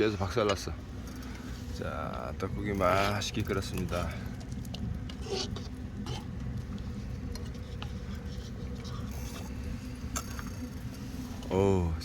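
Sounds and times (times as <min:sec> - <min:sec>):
soup bubbling in a pot: 0:00.7 - 0:11.6.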